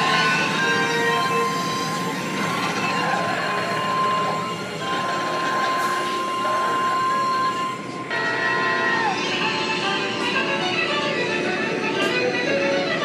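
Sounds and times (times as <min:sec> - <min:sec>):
higher machine tone: 0:00.0 - 0:12.4
high-pitched machine whine: 0:00.0 - 0:13.0.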